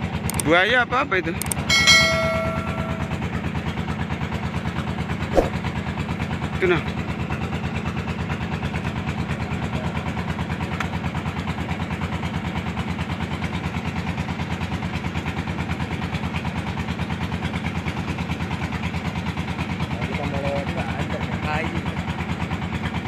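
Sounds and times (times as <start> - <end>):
boat engine chugging: 0.0 - 23.0.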